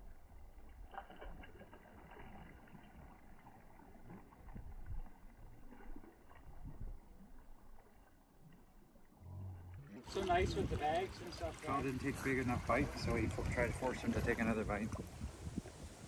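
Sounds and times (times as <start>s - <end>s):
wind rumble on microphone: 0.0s - 8.1s, 9.2s - 16.0s
small waves lapping against rocks: 0.0s - 9.2s, 9.8s - 16.0s.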